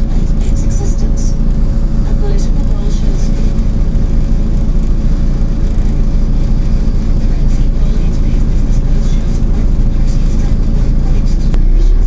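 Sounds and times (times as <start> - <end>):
bus engine rumble: 0.0 - 12.0
thin steady whine: 0.0 - 12.0.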